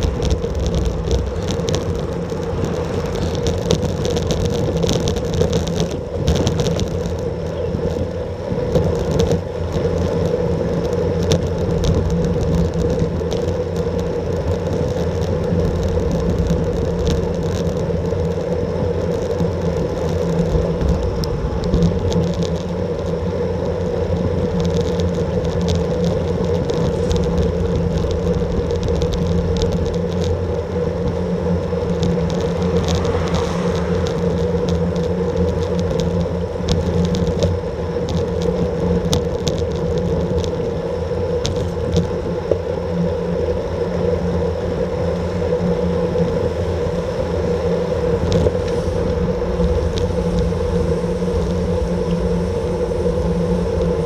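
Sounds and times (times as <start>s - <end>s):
faint ticks: 0.0s - 43.1s, 47.0s - 54.0s
constant low hum: 0.0s - 54.0s
wind and road noise: 0.0s - 54.0s.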